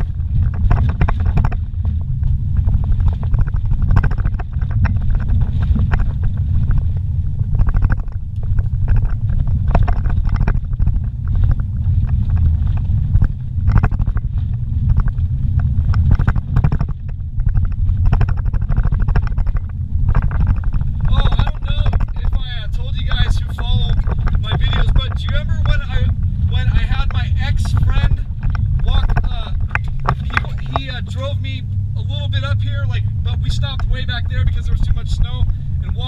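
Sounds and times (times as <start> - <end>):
knocks and rattles from bumps: 0.0 - 36.0
vehicle engine and road rumble: 0.0 - 36.0.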